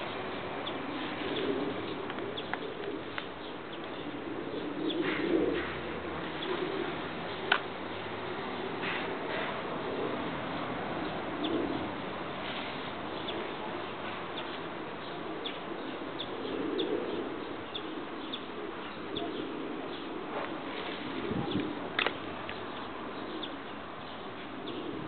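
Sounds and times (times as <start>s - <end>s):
small birds chirping: 0.0s - 9.0s, 10.4s - 25.0s
doves cooing: 0.0s - 25.0s.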